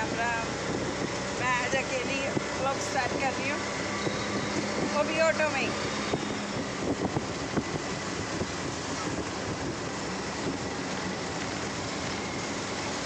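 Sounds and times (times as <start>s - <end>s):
auto-rickshaw engine: 0.0s - 13.0s.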